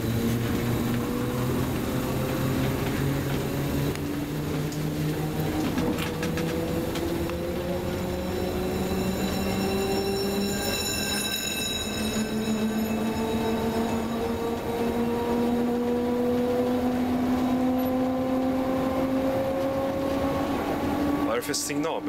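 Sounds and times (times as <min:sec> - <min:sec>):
traction motor whine: 0:00.0 - 0:22.0
train ride rumble: 0:00.0 - 0:22.0.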